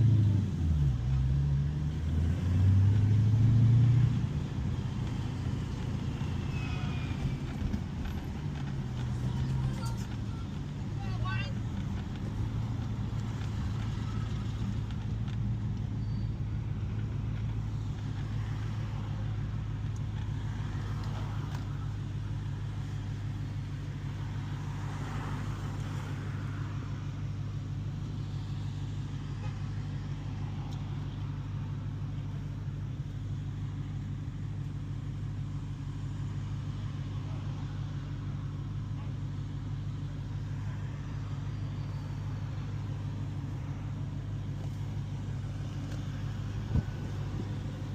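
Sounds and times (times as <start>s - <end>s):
car engine droning: 0.0s - 47.9s.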